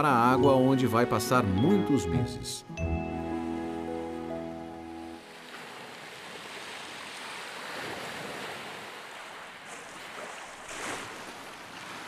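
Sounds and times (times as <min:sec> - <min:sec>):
sea waves and surf: 0:00.0 - 0:12.0.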